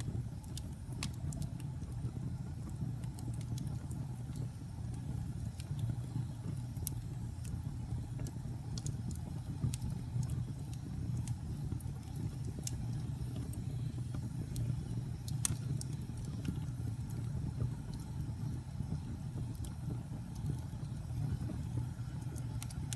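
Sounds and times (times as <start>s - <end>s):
fire crackling and popping: 0.0s - 22.9s
fire rumbling: 0.0s - 22.9s.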